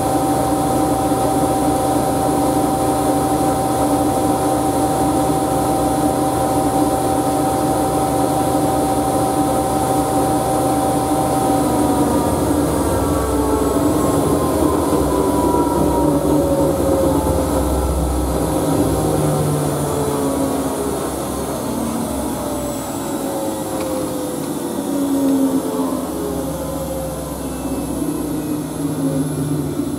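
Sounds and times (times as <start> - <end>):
washing machine spinning: 0.0 - 29.9.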